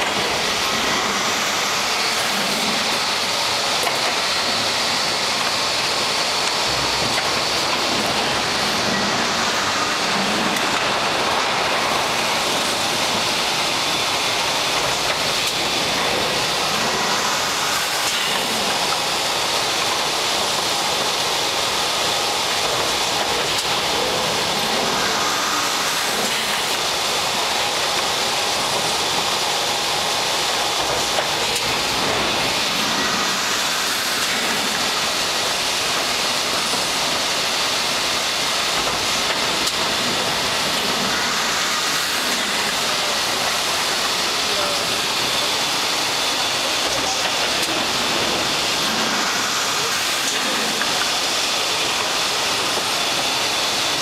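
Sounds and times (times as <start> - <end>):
drilling machine running: 0.0 - 54.0.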